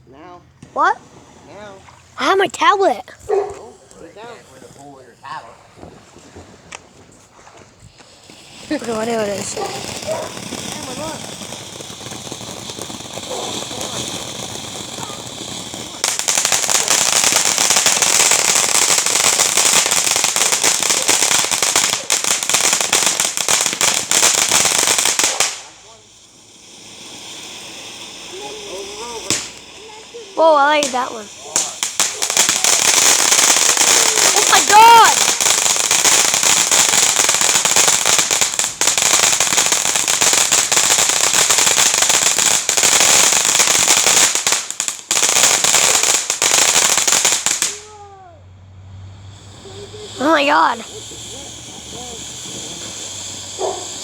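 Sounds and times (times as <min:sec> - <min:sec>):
firework crackling: 0:00.0 - 0:54.0.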